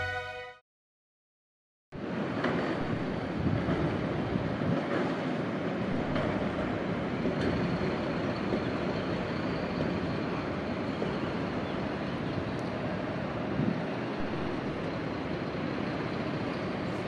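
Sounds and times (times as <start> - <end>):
tram passing: 0.0 - 0.5, 2.0 - 17.0
street traffic noise: 2.0 - 17.0.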